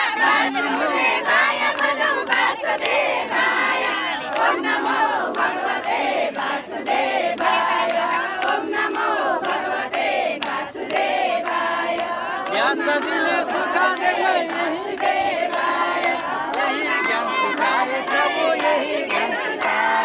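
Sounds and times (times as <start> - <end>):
women chanting a hymn: 0.0 - 20.0.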